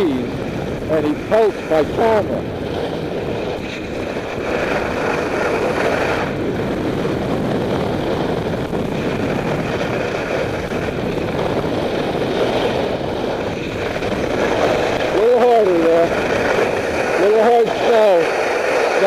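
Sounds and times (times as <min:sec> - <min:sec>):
skis carving on snow: 0:00.0 - 0:19.0
wind rushing over microphone: 0:00.0 - 0:19.0.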